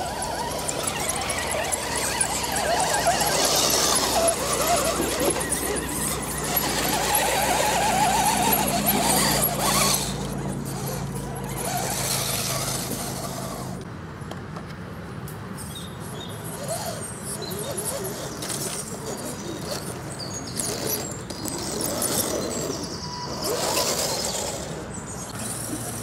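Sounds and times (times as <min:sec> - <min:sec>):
rc car electric motors whining: 0:00.0 - 0:13.9, 0:16.4 - 0:26.0.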